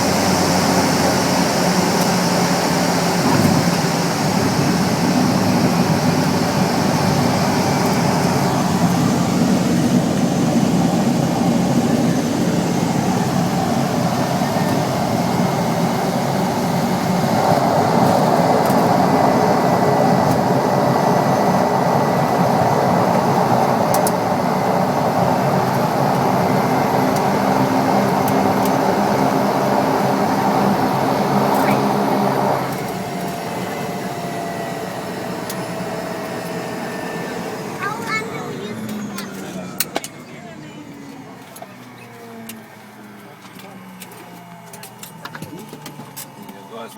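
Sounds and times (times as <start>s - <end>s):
turboprop engine drone: 0.0s - 46.9s.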